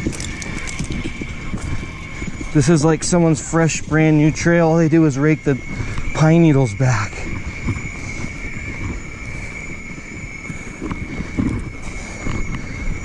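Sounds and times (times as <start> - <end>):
bike tyres crackling over dirt: 0.0 - 13.0
steady high-pitched whine: 0.0 - 13.0
wind on microphone: 0.0 - 13.0.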